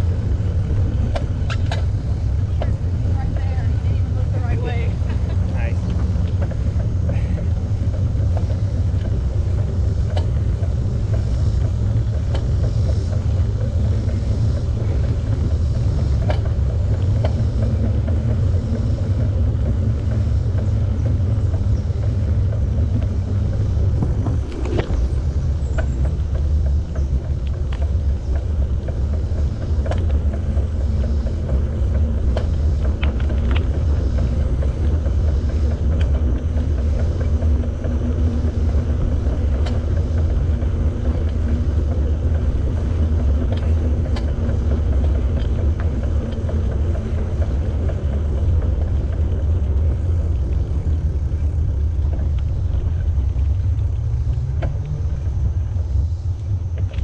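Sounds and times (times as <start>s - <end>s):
bicycle tyre noise: 0.0s - 57.0s
bike ticks and rattles: 0.0s - 57.0s
wind buffeting microphone: 0.0s - 57.0s.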